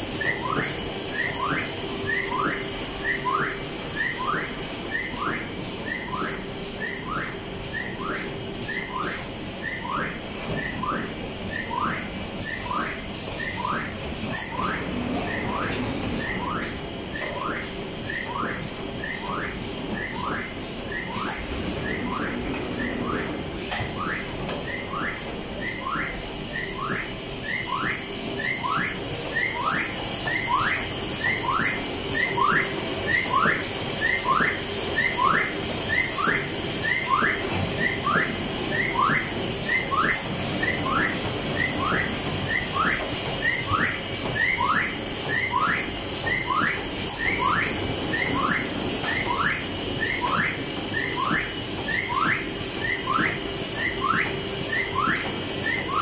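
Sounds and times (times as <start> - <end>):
machine rising whine: 0.0 - 56.0
machine steady hum: 0.0 - 56.0.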